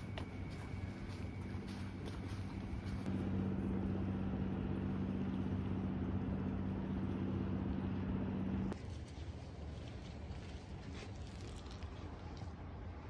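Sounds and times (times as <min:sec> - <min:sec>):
boat engine humming: 0:00.0 - 0:10.7.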